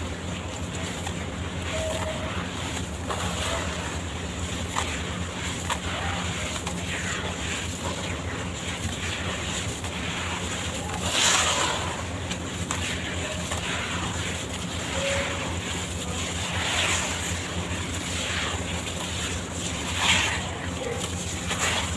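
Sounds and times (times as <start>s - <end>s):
block swishing in water: 0.0s - 21.9s.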